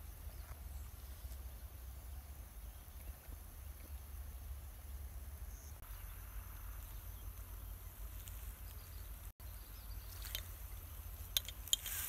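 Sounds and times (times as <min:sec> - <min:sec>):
insect hum: 0:00.0 - 0:12.0.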